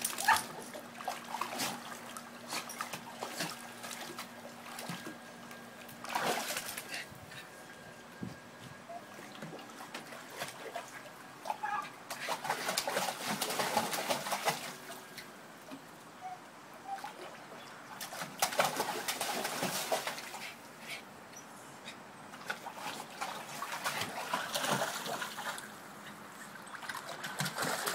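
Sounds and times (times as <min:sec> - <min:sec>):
water splashing and sloshing: 0:00.0 - 0:27.9.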